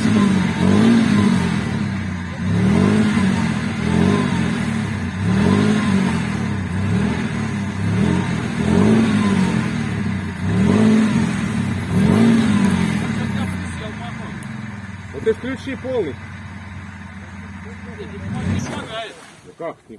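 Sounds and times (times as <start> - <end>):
off-road vehicle engine revving: 0.0 - 19.4.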